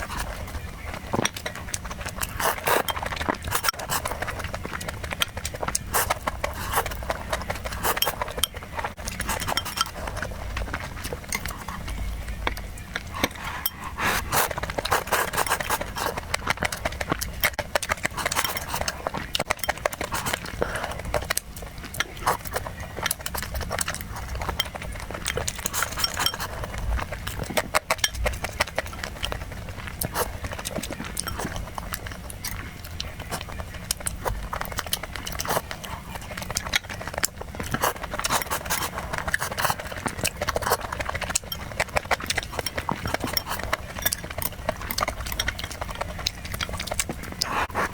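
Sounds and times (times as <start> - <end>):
person chewing and smacking food: 0.0 - 47.9.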